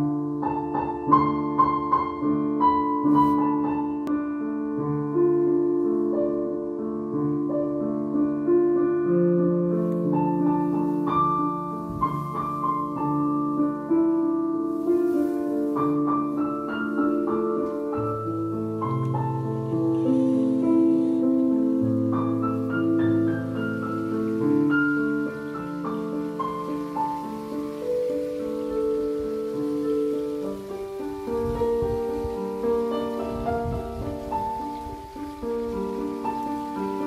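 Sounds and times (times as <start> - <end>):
background piano music: 0.0 - 37.0.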